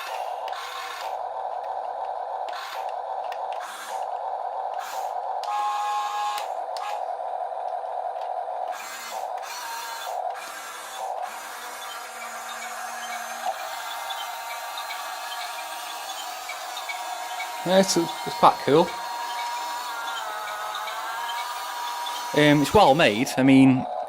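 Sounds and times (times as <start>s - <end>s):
small gear motors whirring: 0.0s - 7.1s, 8.6s - 23.4s
steady hum: 0.0s - 24.0s.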